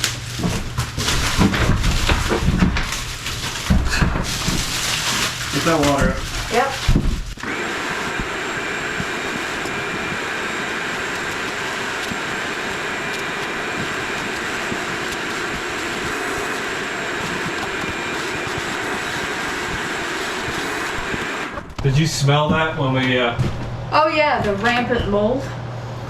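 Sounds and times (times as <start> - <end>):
vacuum whining: 0.0 - 26.0.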